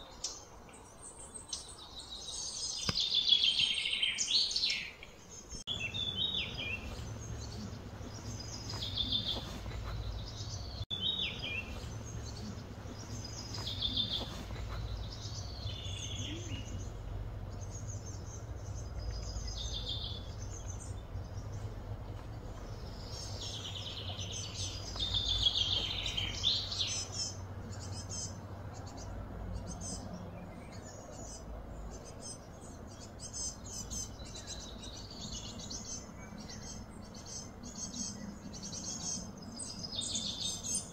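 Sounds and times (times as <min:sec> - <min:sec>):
birds chirping: 0:00.0 - 0:40.9
steady low hum: 0:05.6 - 0:40.9.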